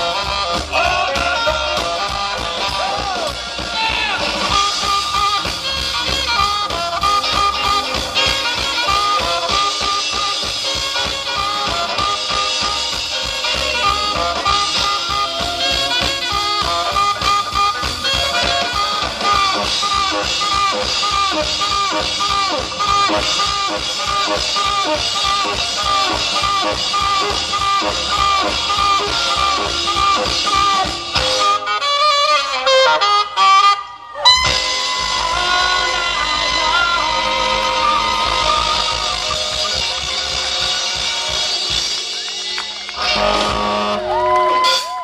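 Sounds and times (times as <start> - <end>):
rock and roll band playing: 0.0 - 45.0
saxophone lead: 0.0 - 45.0.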